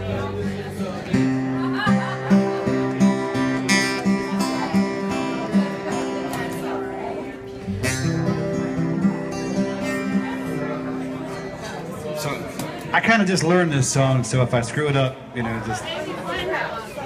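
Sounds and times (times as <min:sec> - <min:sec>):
acoustic guitar strumming: 0:00.0 - 0:13.7.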